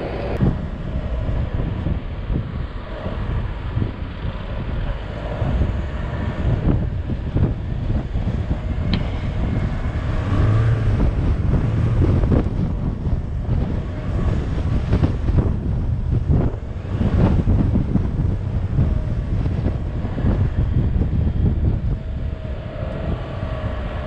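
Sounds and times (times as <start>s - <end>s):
suv engine running: 0.0s - 24.0s
wind buffeting microphone: 0.0s - 24.0s.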